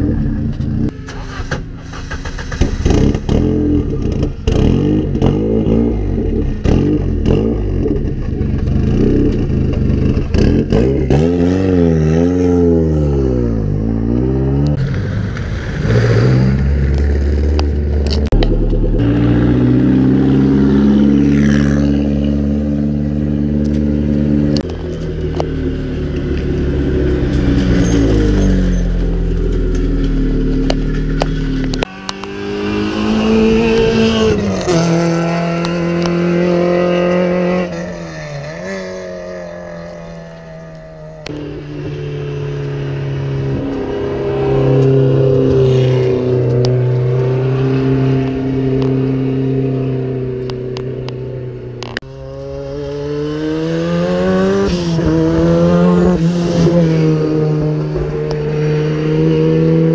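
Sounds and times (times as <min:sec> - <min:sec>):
rally car engines accelerating: 0:00.0 - 0:59.9.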